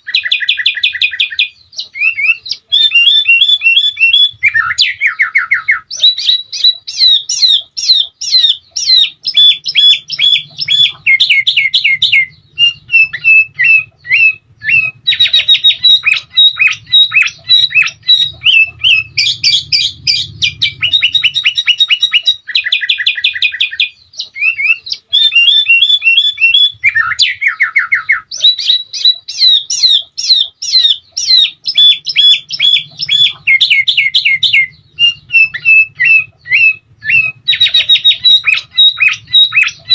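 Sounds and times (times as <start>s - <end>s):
bird song with rapid trills: 0.0s - 39.9s.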